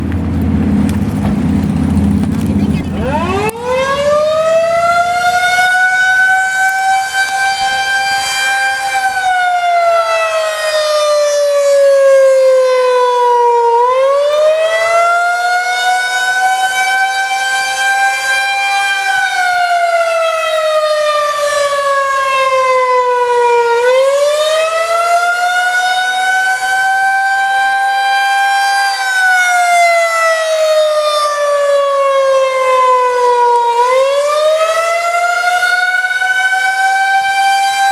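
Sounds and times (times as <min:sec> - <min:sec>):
warning siren wailing: 0:02.1 - 0:37.9.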